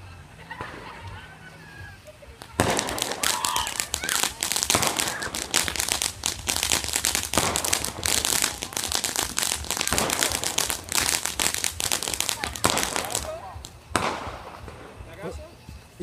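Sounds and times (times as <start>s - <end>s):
firework crackling: 0.0s - 16.0s
firework bangs: 0.4s - 16.0s.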